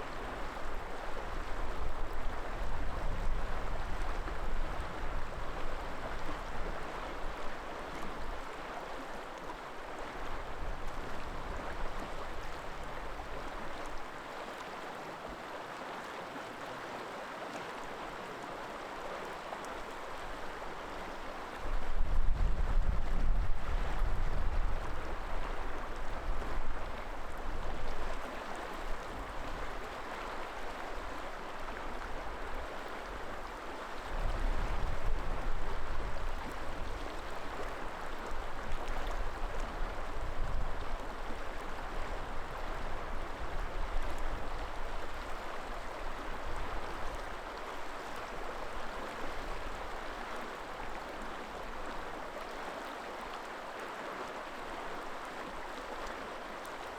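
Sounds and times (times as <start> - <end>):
river water flowing: 0.0 - 56.9.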